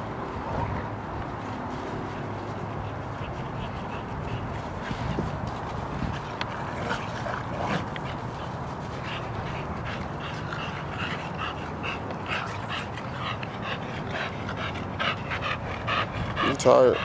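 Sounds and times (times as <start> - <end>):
dogs panting hard: 1.8 - 17.0.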